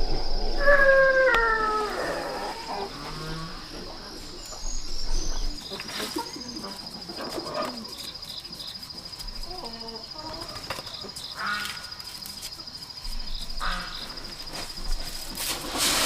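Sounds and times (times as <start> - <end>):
pulsing insect trill: 0.0 - 15.3.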